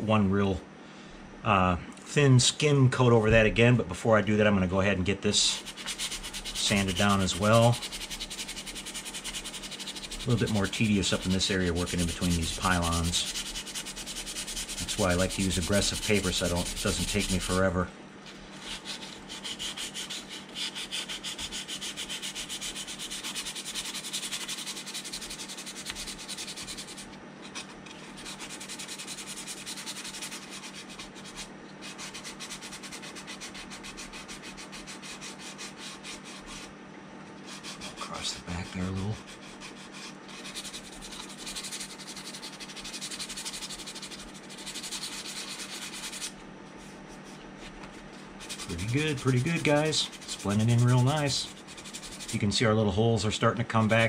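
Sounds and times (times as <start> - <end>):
sandpaper rubbing on plastic: 5.4 - 36.7, 37.4 - 52.6.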